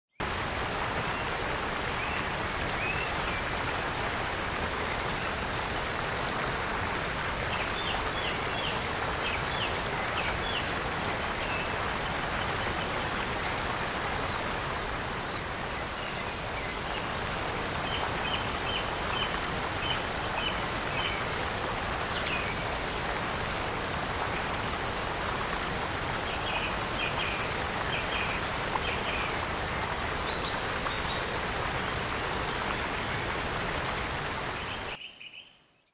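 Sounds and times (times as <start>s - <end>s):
waterfall rushing: 0.2s - 35.0s.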